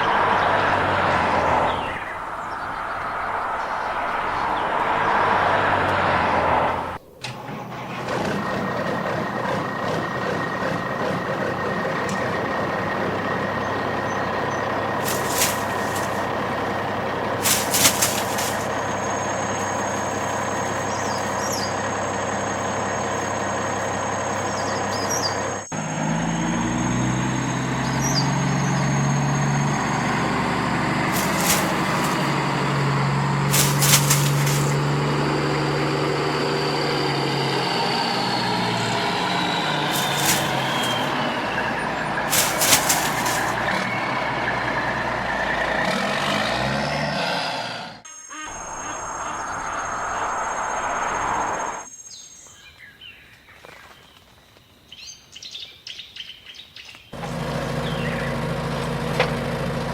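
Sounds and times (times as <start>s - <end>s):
construction vehicle engine running: 0.0s - 48.0s, 57.2s - 59.9s.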